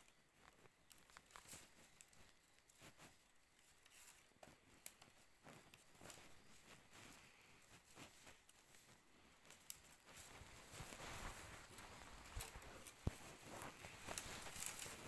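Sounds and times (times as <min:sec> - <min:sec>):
woven plant strips rustling: 0:00.0 - 0:15.0.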